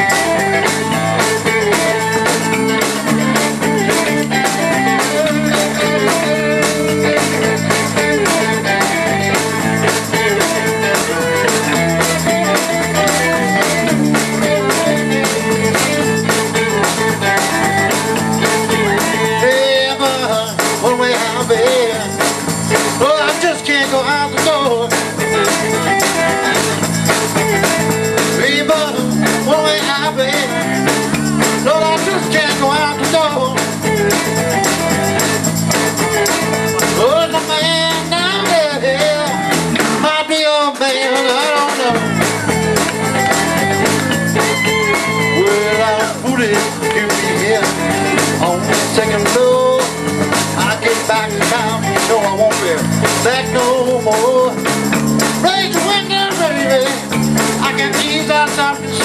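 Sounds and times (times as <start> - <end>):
blues-rock band playing: 0.0 - 59.0
lead electric guitar bending notes: 0.0 - 59.0.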